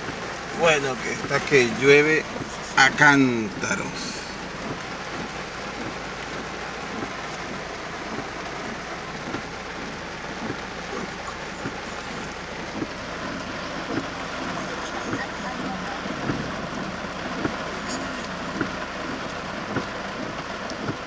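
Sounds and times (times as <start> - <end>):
heavy rain on car roof: 0.0 - 21.0.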